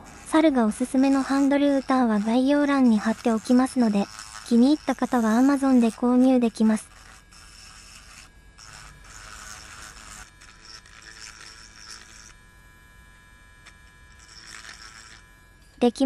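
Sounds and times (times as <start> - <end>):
rotary tool drilling into plastic: 0.0 - 12.4, 13.6 - 15.8.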